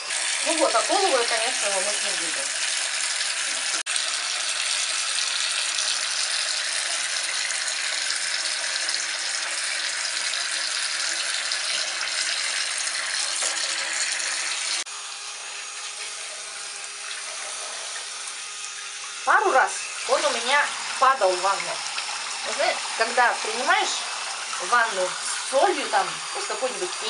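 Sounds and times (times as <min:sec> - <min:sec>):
water pouring into bathtub: 0:00.0 - 0:27.0.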